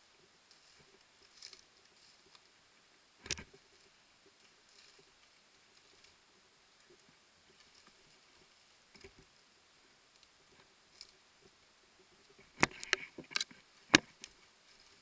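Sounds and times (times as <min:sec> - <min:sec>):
faint rustling: 0:00.0 - 0:15.0.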